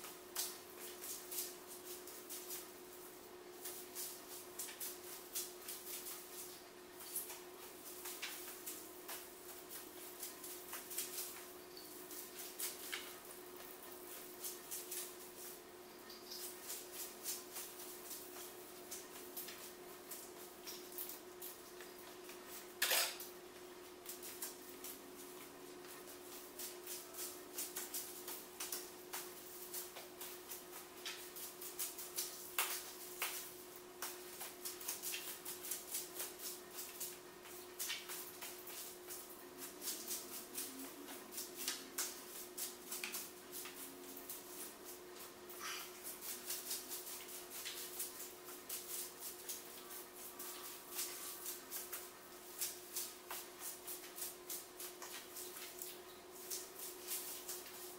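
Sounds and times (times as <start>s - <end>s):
light clicks and crackles: 3.6s - 57.9s.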